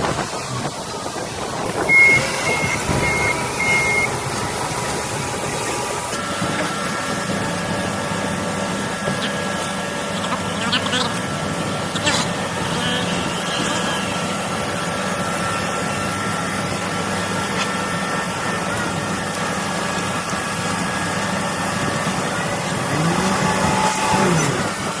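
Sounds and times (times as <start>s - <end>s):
engine droning: 0.0s - 25.0s.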